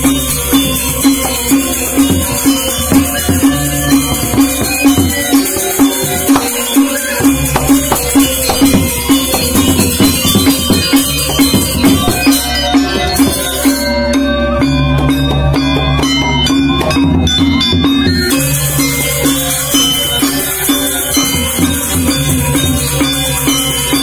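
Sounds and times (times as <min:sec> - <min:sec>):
bronze metallophones ringing: 0:00.0 - 0:24.0
hand drums: 0:00.0 - 0:24.0.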